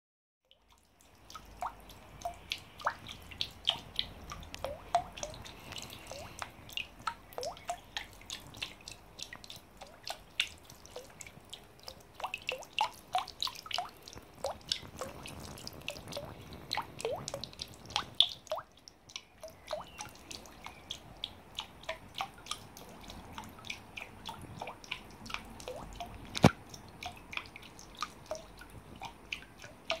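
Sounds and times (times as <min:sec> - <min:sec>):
faint water trickle: 0:00.4 - 0:30.0
water dripping and splashing: 0:00.4 - 0:30.0.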